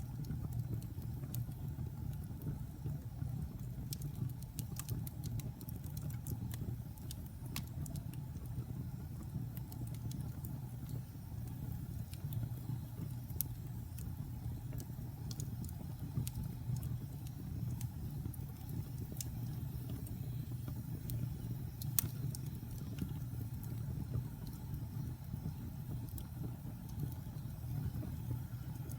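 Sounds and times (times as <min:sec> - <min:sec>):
fire flames rumbling: 0:00.0 - 0:28.9
logs crackling and popping: 0:00.0 - 0:28.9.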